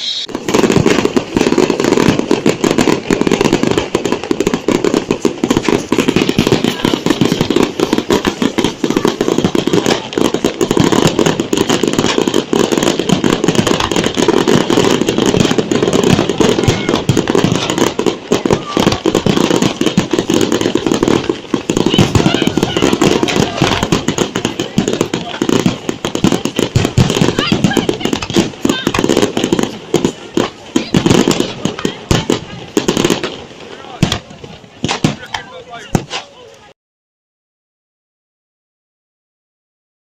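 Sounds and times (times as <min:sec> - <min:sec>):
fireworks crackling bangs: 0:00.0 - 0:36.8.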